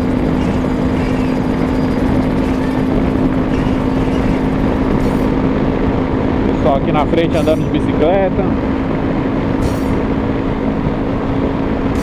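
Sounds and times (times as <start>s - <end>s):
motorcycle engine droning: 0.0s - 12.0s
wind and road noise: 0.0s - 12.0s.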